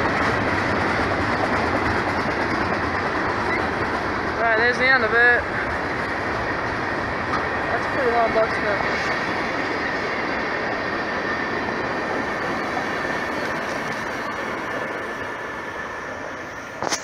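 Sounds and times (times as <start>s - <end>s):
train wheels rumbling and clattering: 0.0s - 17.0s.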